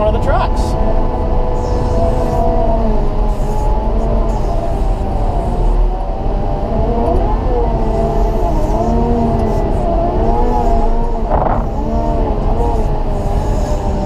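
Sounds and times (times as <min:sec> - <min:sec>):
wheel loader diesel engine rumbling: 0:00.0 - 0:14.0.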